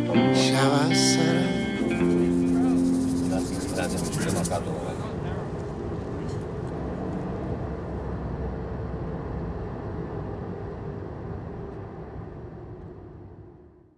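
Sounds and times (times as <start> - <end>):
vehicle rumbling in motion: 1.8 - 13.8.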